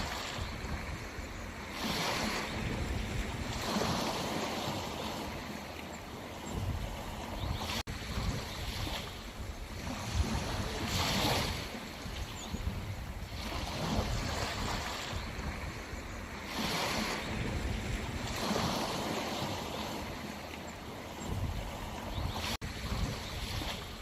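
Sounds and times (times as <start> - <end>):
sea waves washing ashore: 0.0 - 24.0
wind rumbling on microphone: 0.0 - 24.0.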